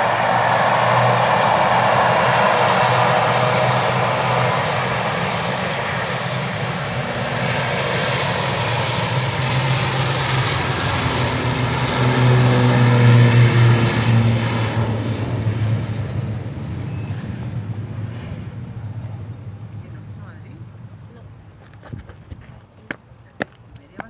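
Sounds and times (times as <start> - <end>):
turboprop propeller drone: 0.0 - 22.4.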